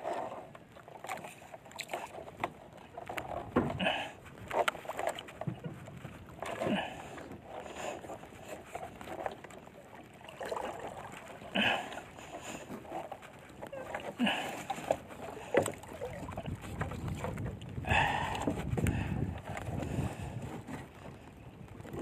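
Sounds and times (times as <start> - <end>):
water slapping against boat hull: 0.0 - 22.0.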